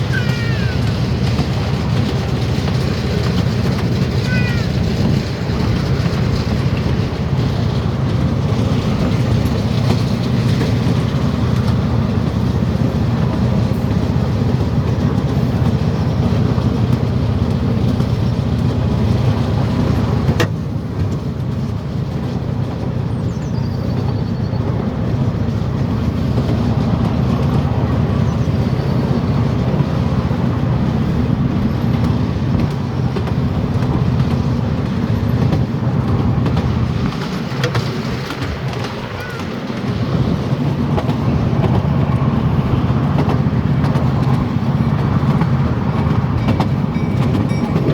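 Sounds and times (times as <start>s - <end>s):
train rumbling: 0.0s - 47.9s.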